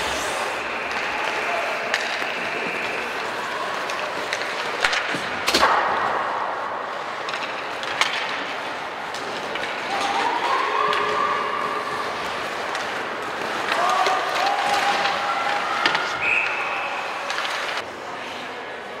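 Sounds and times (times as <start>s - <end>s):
sharp cracks of sticks and puck: 0.0s - 17.8s
skates scraping ice: 0.0s - 18.5s
steady arena hum: 0.0s - 19.0s.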